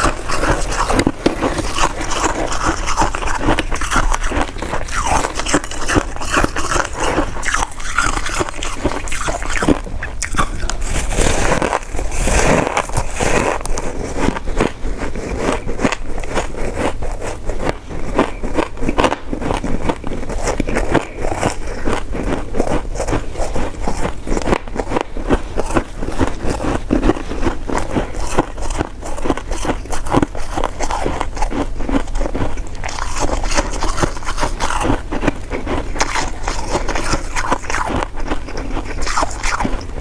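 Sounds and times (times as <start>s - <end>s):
chewing with mouth clicks: 0.0s - 40.0s.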